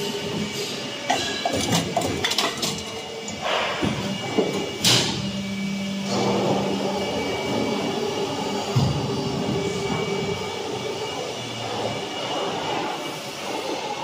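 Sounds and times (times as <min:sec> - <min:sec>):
steady low machine hum: 0:01.4 - 0:13.0.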